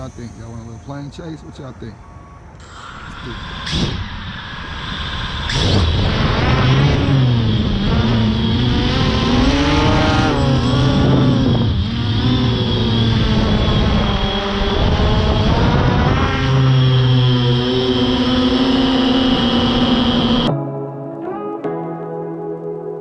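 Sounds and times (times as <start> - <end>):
model airplane propellers whining: 0.0 - 20.5.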